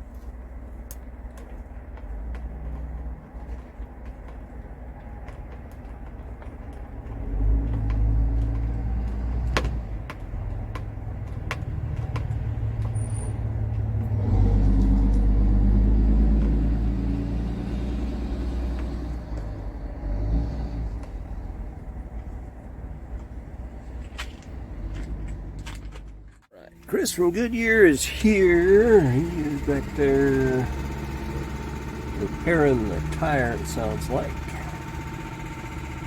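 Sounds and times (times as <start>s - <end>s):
heavy vehicle engine rumbling: 0.0s - 36.0s.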